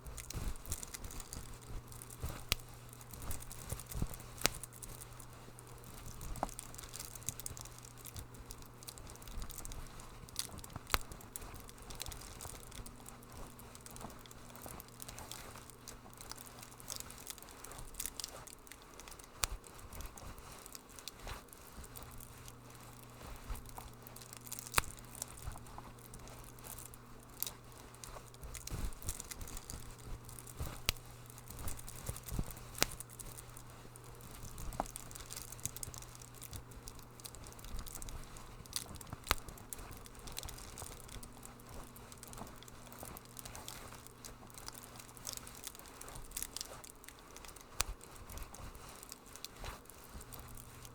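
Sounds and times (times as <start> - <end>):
fireplace fire crackling: 0.0 - 50.9
low steady hum: 0.0 - 50.9.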